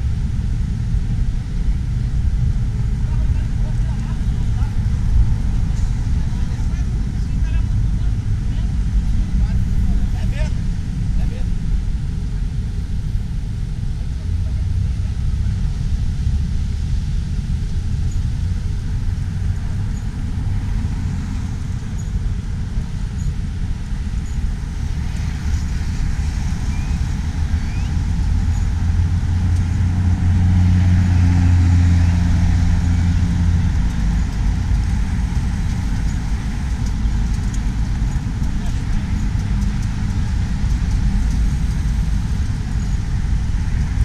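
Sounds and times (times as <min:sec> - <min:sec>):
street traffic: 0:00.0 - 0:44.0
vehicle engine hum passing: 0:00.0 - 0:44.0.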